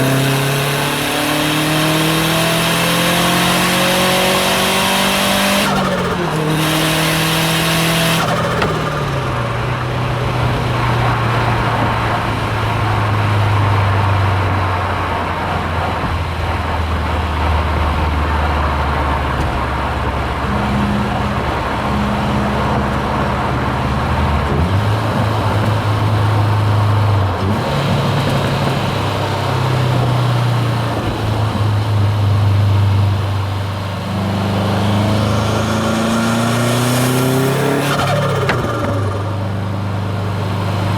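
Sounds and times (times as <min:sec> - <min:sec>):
turbocharged car engine: 0:00.0 - 0:40.9.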